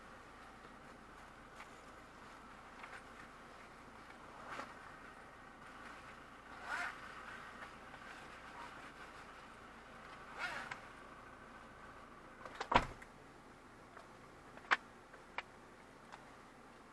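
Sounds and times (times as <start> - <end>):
vehicle cabin hum: 0.0 - 16.9.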